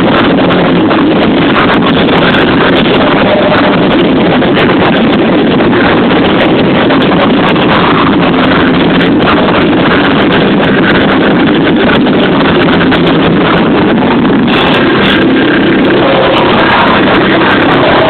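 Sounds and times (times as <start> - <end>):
live band playing distorted: 0.0 - 18.0.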